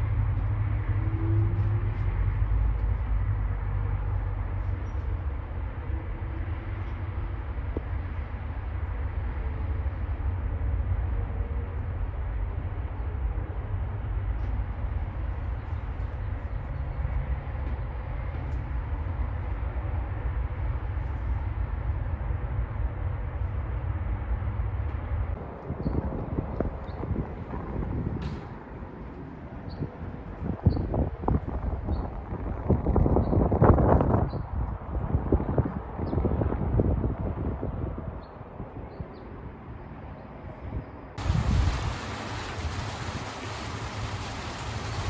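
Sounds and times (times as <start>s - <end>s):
wind rumbling on microphone: 0.0s - 45.0s.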